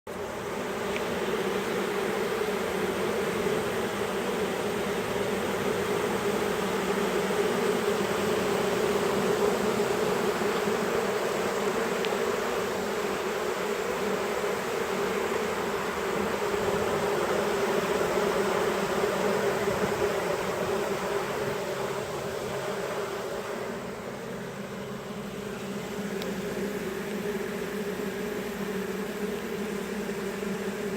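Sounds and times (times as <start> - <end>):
bee swarm buzzing: 0.1 - 30.9.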